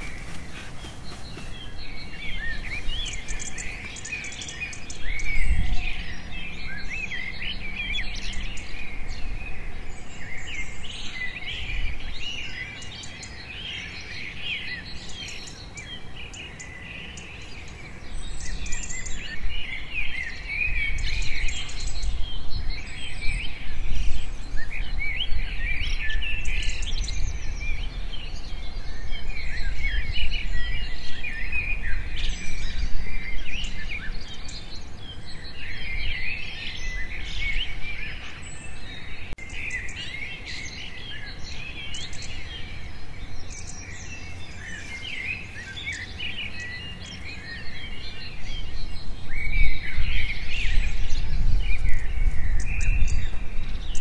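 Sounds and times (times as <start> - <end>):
birds chirping and calling: 0.0 - 19.4, 20.0 - 54.0.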